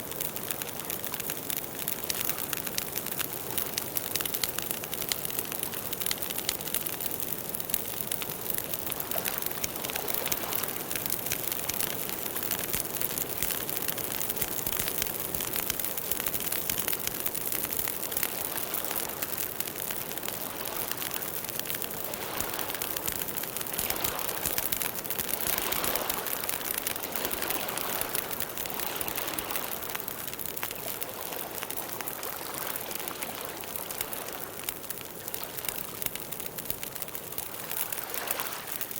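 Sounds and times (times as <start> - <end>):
campfire wood crackling: 0.0 - 38.9.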